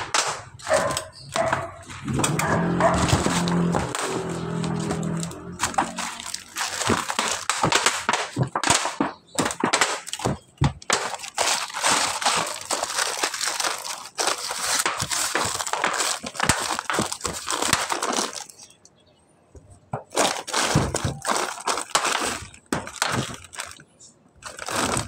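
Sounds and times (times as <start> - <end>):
dry leaves crunching on metal roof: 0.0 - 18.8, 20.0 - 25.0
plastic sack crinkling: 0.0 - 18.8, 20.0 - 25.0.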